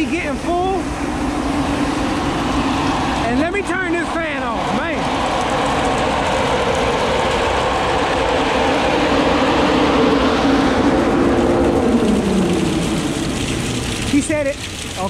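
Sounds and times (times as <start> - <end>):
aeration fan running: 0.0 - 15.0.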